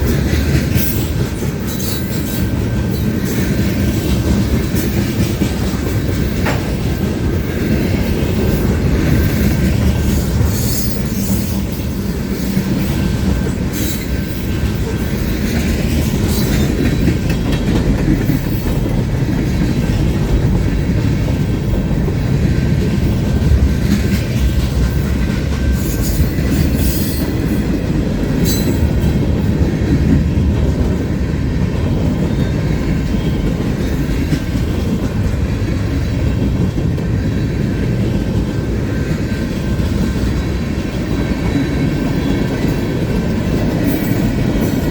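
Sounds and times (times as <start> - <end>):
freight train wheels rumbling on rails: 0.0 - 44.9.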